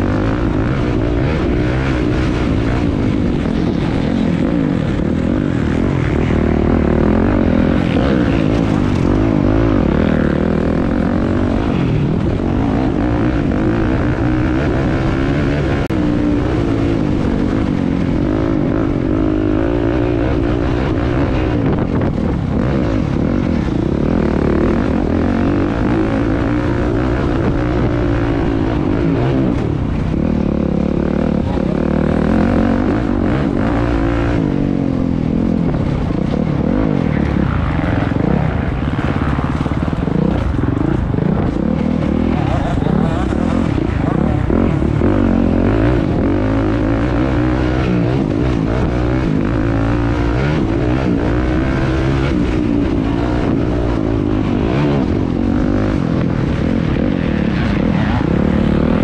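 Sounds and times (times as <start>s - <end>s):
motocross bike engines racing: 0.0s - 59.0s.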